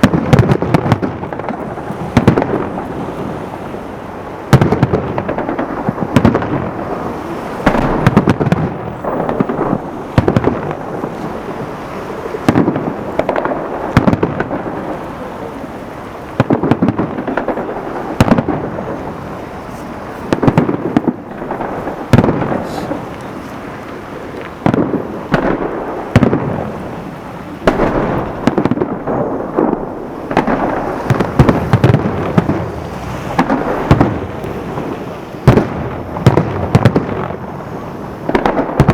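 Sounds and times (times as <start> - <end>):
fireworks booming: 0.0 - 38.9.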